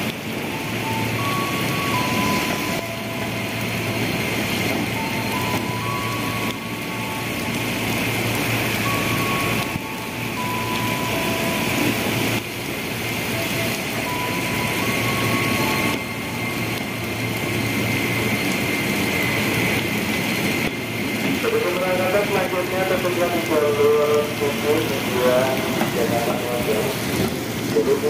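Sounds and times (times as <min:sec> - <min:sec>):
electric train rolling past: 0:00.0 - 0:28.0
heavy rain: 0:00.0 - 0:28.0.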